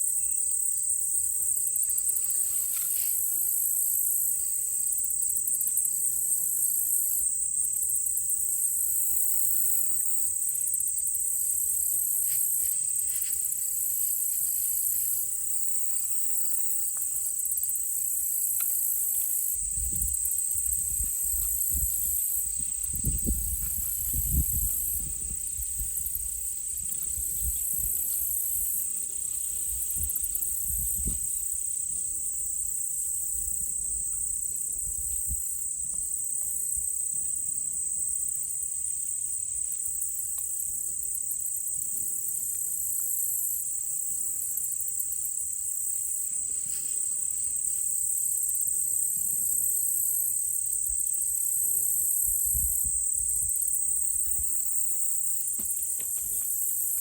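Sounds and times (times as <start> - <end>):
insects high-pitched buzz: 0.0 - 57.0
insects pulsing trill: 0.0 - 57.0.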